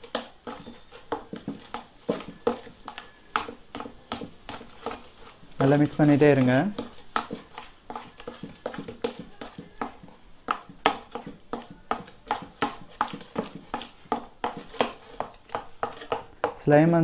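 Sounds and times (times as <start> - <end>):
slime squelching in a bowl: 0.0 - 16.7.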